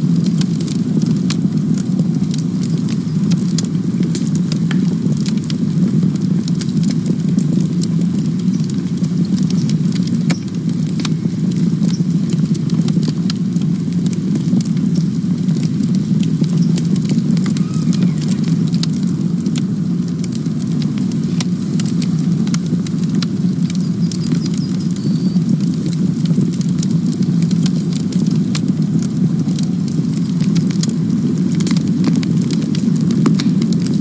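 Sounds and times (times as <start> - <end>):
burning wood crackling: 0.0 - 34.0
campfire flames rushing: 0.0 - 34.0.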